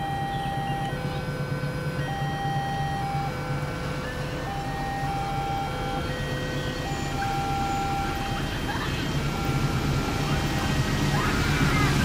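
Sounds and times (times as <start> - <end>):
two-tone electronic crossing alarm: 0.0 - 12.0.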